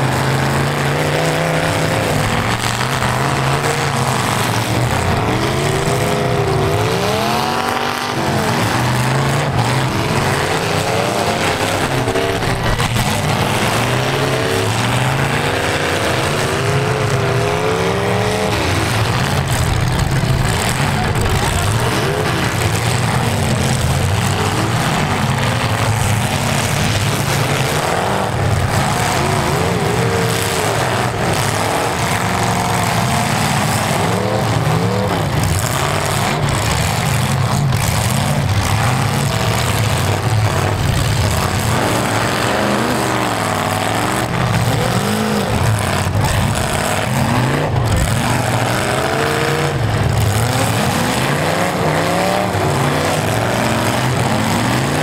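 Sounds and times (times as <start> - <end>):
car engines revving hard: 0.0 - 55.0.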